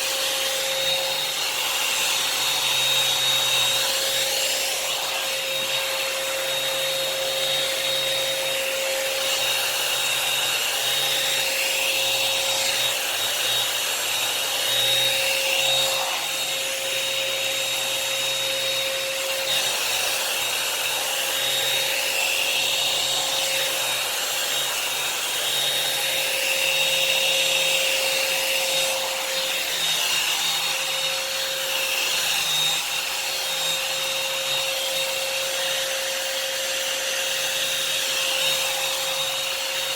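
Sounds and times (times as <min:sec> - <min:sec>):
hot air brush fan whining: 0:00.0 - 0:39.9.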